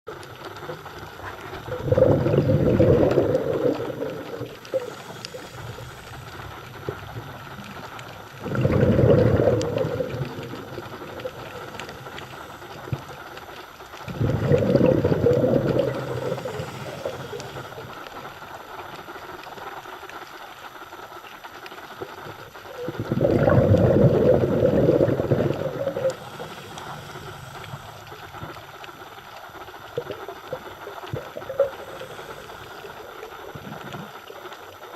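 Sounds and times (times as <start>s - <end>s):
exhaled bubbles rushing: 0.1s - 19.6s, 21.8s - 34.9s
underwater hiss: 0.1s - 34.9s.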